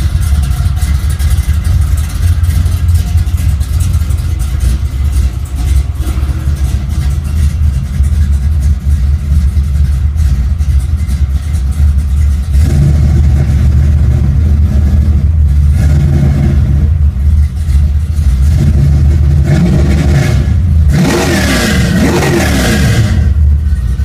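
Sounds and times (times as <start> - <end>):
car engine idle rumble: 0.0 - 24.0
car engine revving: 0.0 - 24.0.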